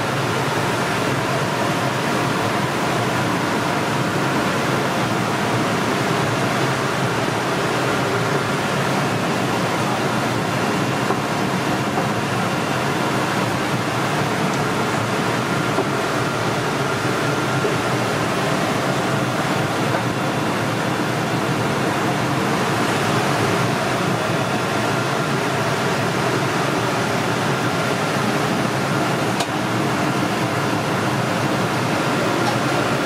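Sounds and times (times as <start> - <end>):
kitchen exhaust fans roaring: 0.0 - 33.0.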